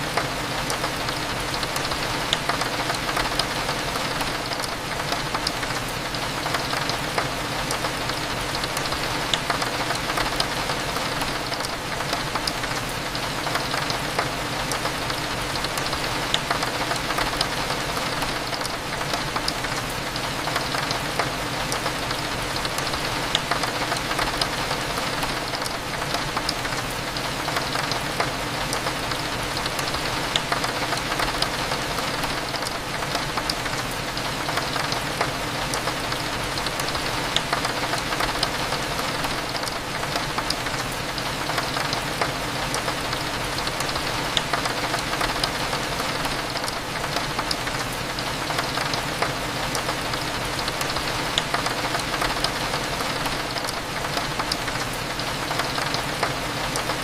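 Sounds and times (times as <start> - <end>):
rain against a window: 0.0 - 57.0.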